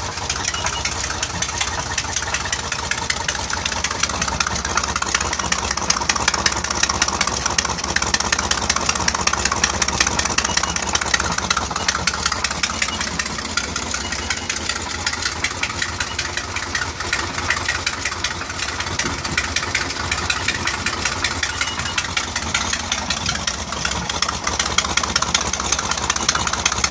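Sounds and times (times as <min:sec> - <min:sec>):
boat engine idling: 0:00.0 - 0:26.9
fast ticking knock: 0:00.0 - 0:26.9.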